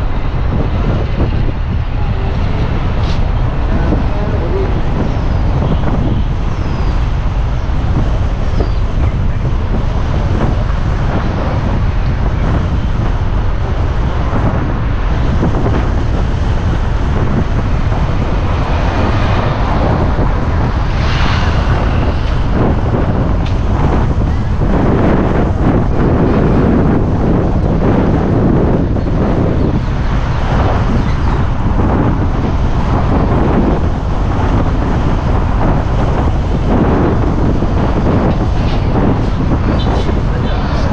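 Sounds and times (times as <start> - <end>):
moving vehicle running noise: 0.0 - 40.9
wind buffeting microphone: 0.0 - 40.9.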